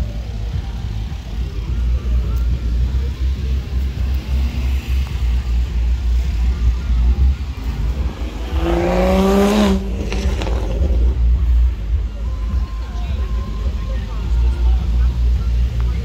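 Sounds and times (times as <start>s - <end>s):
car engine revving: 0.0s - 16.0s
low engine rumble: 0.0s - 16.0s.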